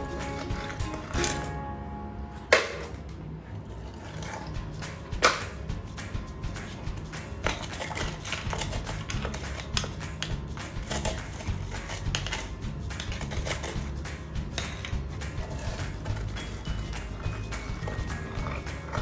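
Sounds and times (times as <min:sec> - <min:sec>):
hand tool scraping drain: 0:00.0 - 0:01.6, 0:03.6 - 0:05.5, 0:06.5 - 0:19.0
background music: 0:00.0 - 0:19.0.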